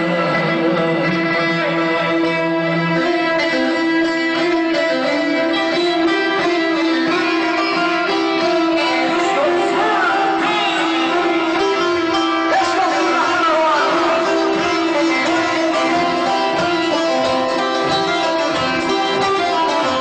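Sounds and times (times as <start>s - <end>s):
plucked lutes: 0.0s - 20.0s.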